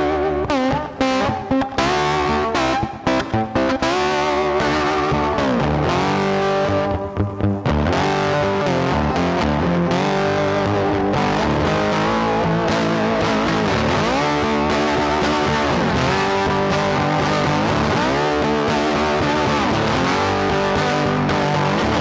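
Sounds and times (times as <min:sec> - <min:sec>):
rock music with distorted guitar: 0:00.0 - 0:22.0.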